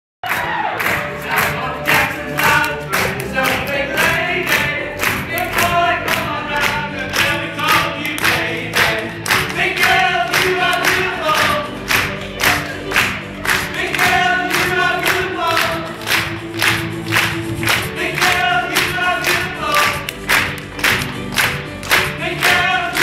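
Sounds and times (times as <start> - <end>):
backing music with steady beat: 0.2 - 23.0
voices singing together: 0.3 - 20.7, 21.5 - 23.0.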